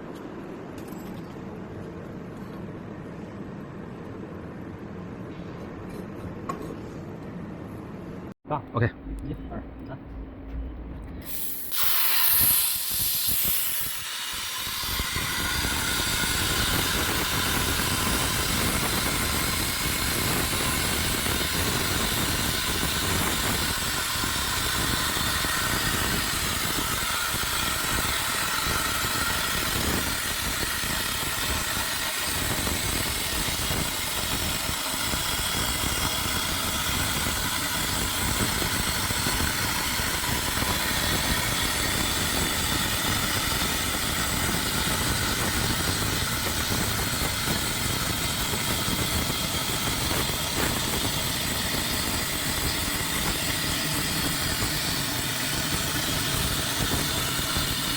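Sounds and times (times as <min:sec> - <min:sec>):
plasma arc igniting hiss: 0:11.2 - 0:57.9
plasma cutter hissing and whining: 0:11.2 - 0:57.9.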